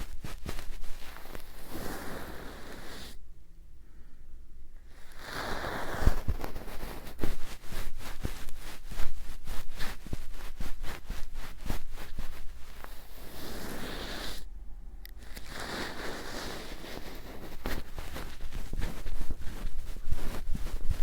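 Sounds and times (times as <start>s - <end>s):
soft rustle: 0.0s - 3.2s, 4.8s - 21.0s.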